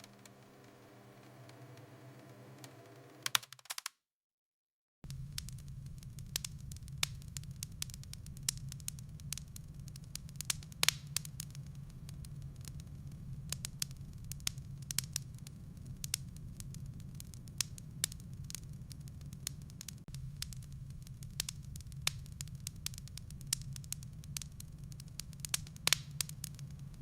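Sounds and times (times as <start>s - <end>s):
firewood crackling and popping: 0.0s - 3.3s, 5.1s - 27.0s.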